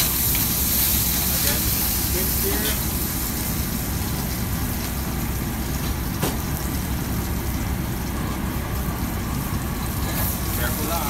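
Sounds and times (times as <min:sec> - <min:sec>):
gas burner and ventilation rumble: 0:00.0 - 0:11.0
seafood sizzling in a pan: 0:00.0 - 0:11.0.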